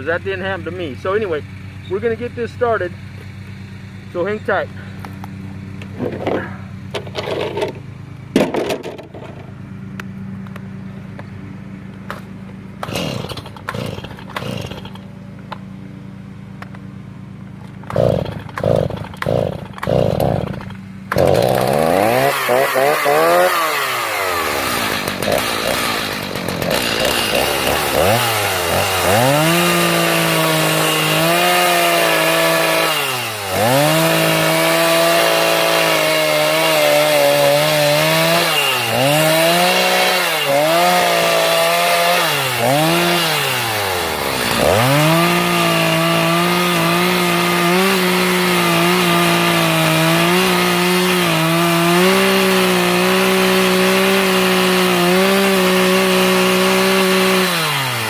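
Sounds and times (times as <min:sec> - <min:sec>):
chainsaw cutting wood: 0:05.0 - 0:09.4, 0:12.1 - 0:15.6, 0:17.6 - 0:58.0.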